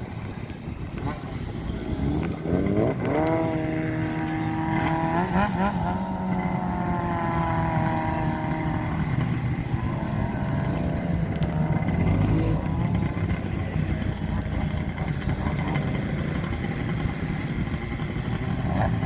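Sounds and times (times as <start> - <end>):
low engine drone: 0.0 - 19.0
racing engine revving: 0.0 - 19.0.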